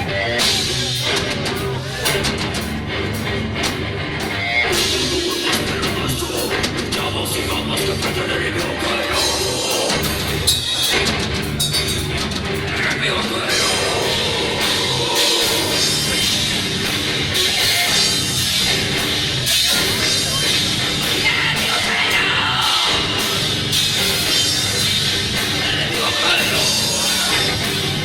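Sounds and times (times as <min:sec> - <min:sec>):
heavy rock band playing: 0:00.0 - 0:28.0.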